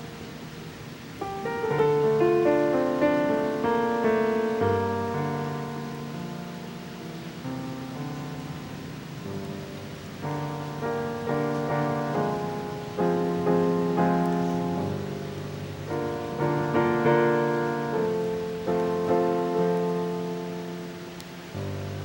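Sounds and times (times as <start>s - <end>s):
jazz piano chords: 0.0s - 22.0s.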